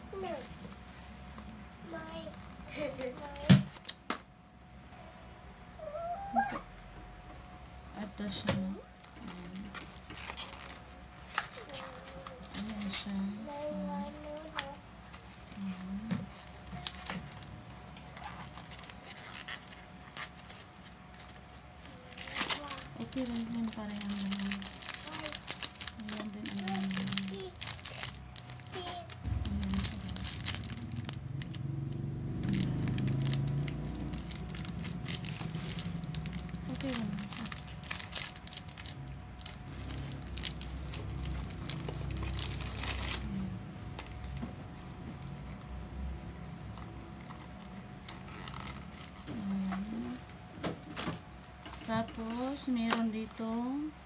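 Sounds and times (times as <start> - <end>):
faint steady hum: 0.0 - 54.0
plastic wrapper crinkling: 9.0 - 45.8, 46.7 - 53.9.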